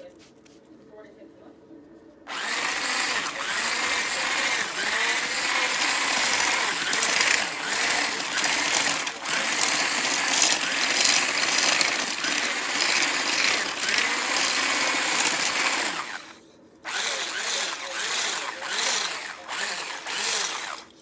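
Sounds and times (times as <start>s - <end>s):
electric blender whirring: 2.3s - 21.0s.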